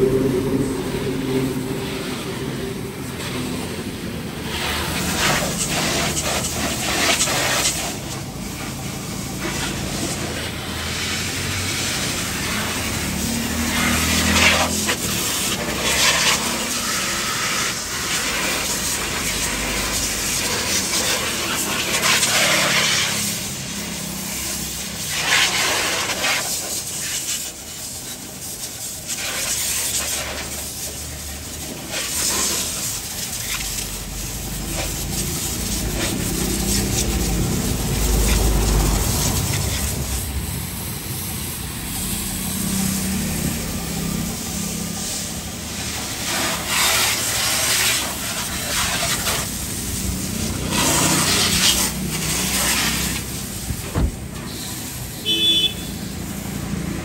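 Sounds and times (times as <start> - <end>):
water jet spraying: 0.0 - 57.0.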